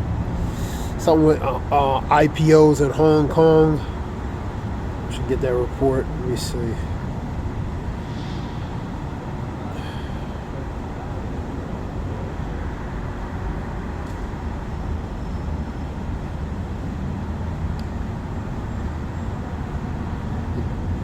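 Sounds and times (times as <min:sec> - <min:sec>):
low rumble with hiss: 0:00.0 - 0:21.0.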